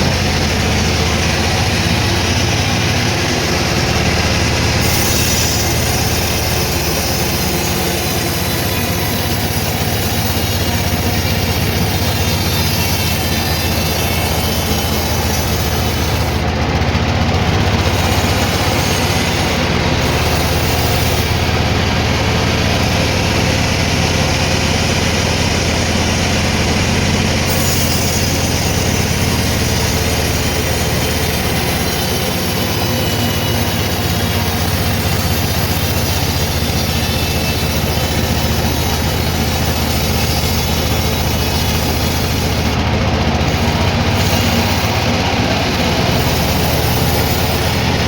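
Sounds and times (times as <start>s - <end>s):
sawmill machinery humming: 0.0s - 48.0s.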